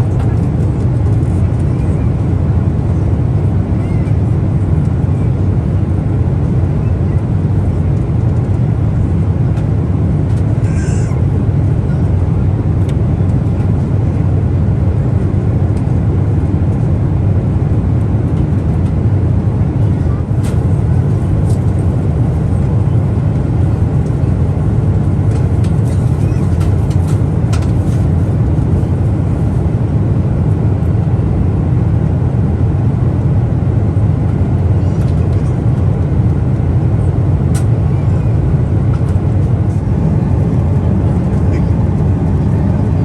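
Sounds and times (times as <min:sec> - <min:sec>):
aircraft cabin engine drone: 0:00.0 - 0:43.0.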